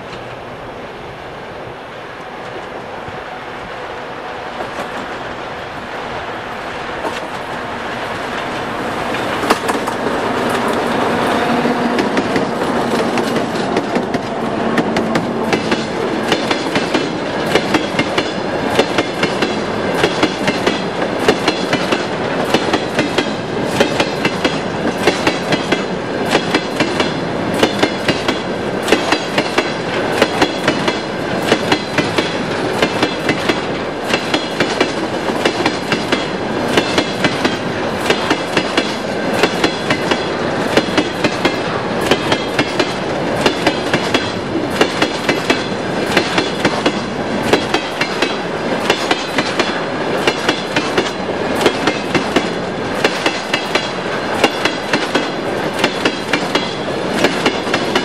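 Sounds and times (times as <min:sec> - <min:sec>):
train rumble: 0:00.0 - 0:58.0
train wheels clacking over rail joints: 0:08.2 - 0:58.0.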